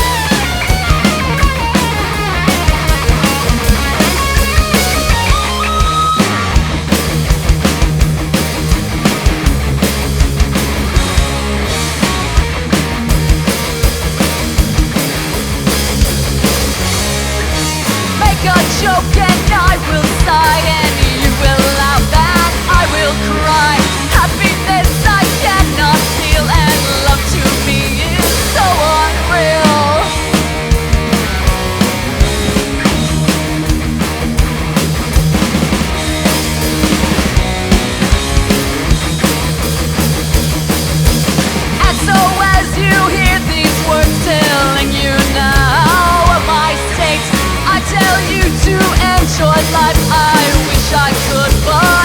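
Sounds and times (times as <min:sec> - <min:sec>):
bass: 0:00.0 - 0:52.0
drum beat: 0:00.0 - 0:52.0
lead guitar line: 0:00.0 - 0:52.0.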